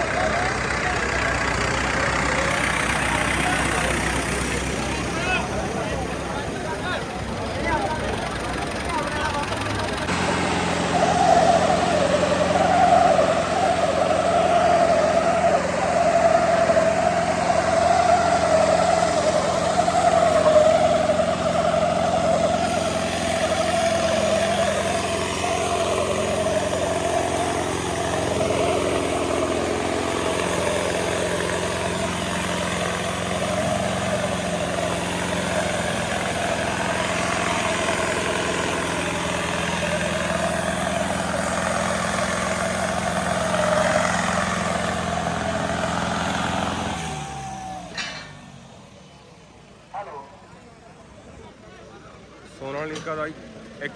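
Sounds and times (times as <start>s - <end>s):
diesel tractor engines droning: 0.0s - 53.9s.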